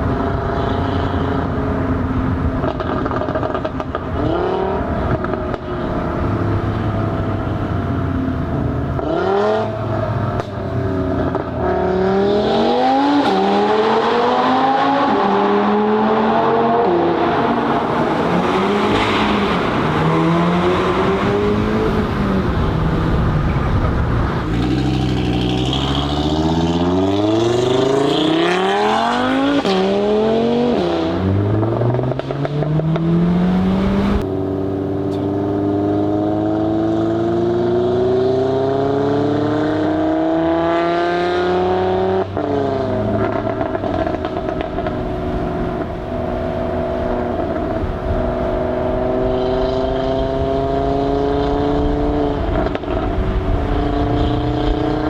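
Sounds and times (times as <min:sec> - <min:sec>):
car engine revving and accelerating: 0:01.3 - 0:55.0.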